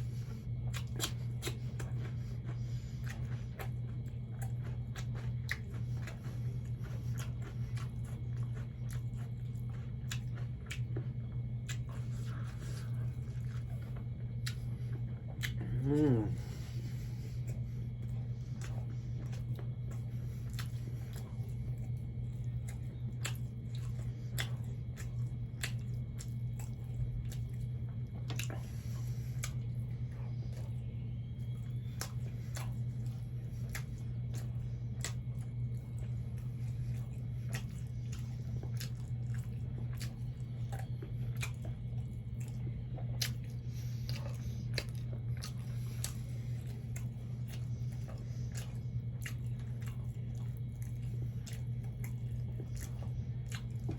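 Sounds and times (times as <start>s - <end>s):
low hum: 0.0s - 53.9s
wet chewing and lip smacks: 0.0s - 53.9s.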